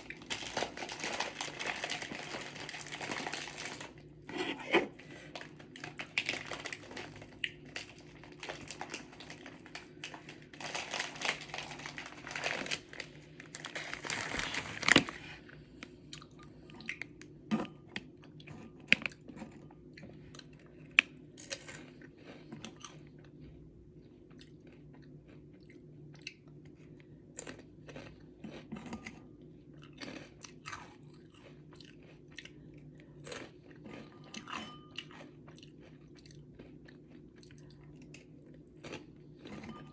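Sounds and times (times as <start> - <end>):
faint steady hum: 0.0 - 39.9
person chewing food: 0.0 - 39.9.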